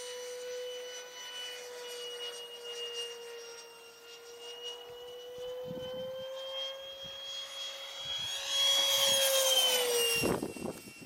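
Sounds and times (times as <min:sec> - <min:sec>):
electric ducted fan whining: 0:00.0 - 0:11.0.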